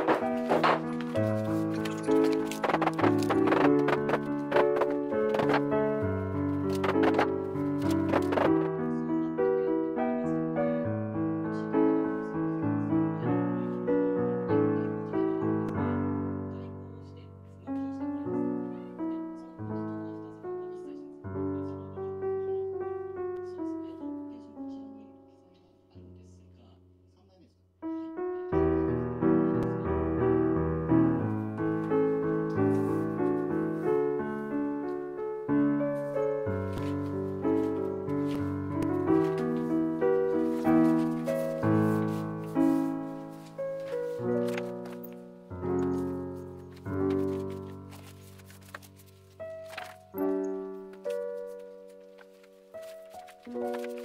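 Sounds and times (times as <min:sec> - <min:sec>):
gentle piano melody: 0:00.0 - 0:26.6, 0:27.8 - 0:54.0.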